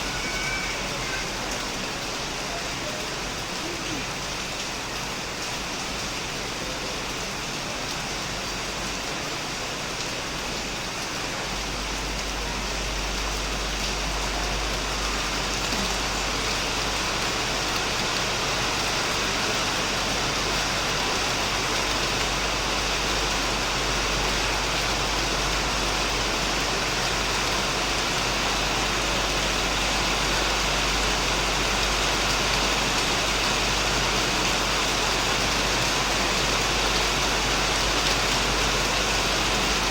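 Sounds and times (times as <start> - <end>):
heavy rain on a shed: 0.0 - 39.9.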